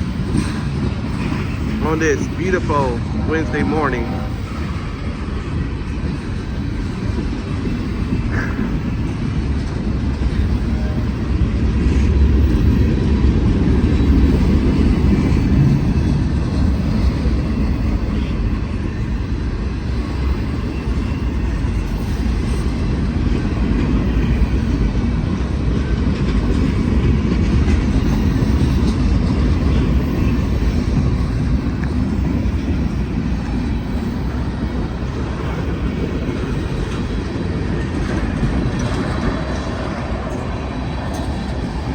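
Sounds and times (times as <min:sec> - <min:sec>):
freight train wheels rumbling on rail: 0:00.0 - 0:41.9.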